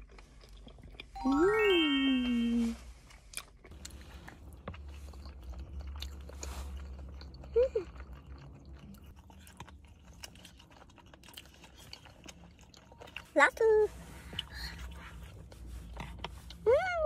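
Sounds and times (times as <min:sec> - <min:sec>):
close-up wet chewing: 0:00.0 - 0:01.2, 0:03.0 - 0:16.8.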